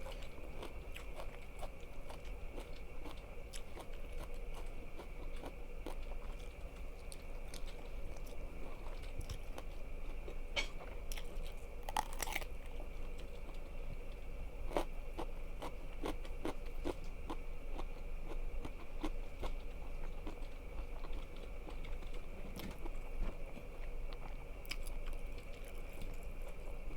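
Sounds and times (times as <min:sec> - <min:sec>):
chewing crunchy food: 0:00.0 - 0:26.9.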